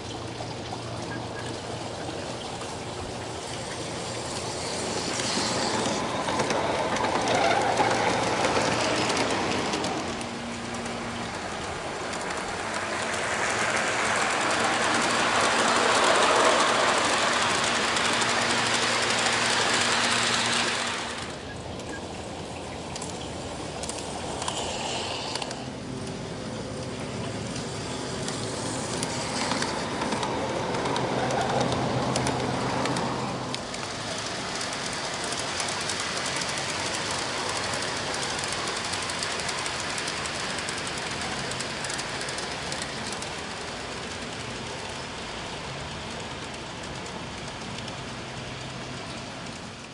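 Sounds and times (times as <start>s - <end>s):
model train wheels on track: 0.0s - 49.9s
small rapid clicks: 3.4s - 22.0s, 26.8s - 49.9s.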